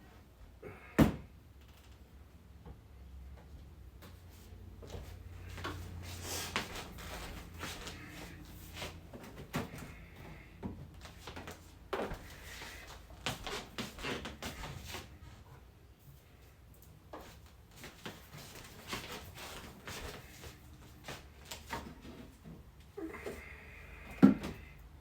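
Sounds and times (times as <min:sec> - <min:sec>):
refrigerator hum: 0:00.0 - 0:25.0.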